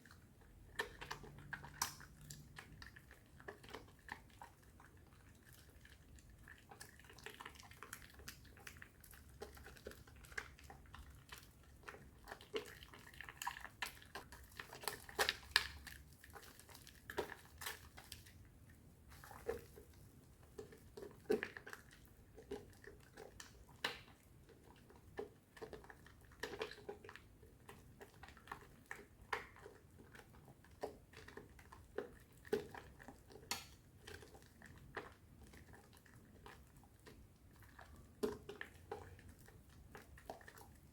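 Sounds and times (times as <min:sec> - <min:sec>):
hands lathering soap foam: 0:00.1 - 0:40.9.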